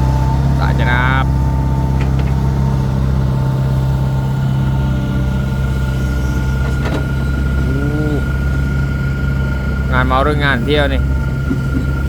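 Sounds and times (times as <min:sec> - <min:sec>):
heavy diesel engine running: 0:00.0 - 0:12.0
high engine whine: 0:00.0 - 0:12.0.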